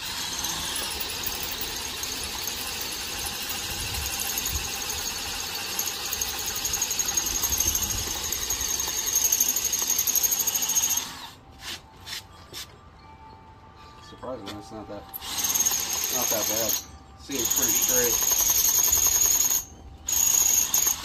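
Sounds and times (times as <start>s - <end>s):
electric drill whining: 0.0s - 11.4s, 15.1s - 21.0s.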